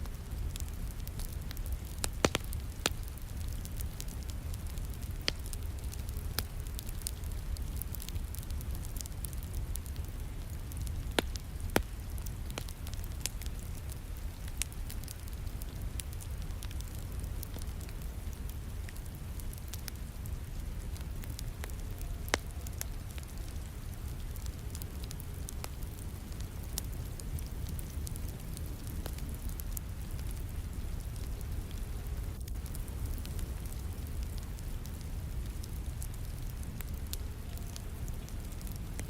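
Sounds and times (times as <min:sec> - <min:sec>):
low rumble of fire: 0:00.0 - 0:39.0
wood fire crackling and popping: 0:00.0 - 0:39.0.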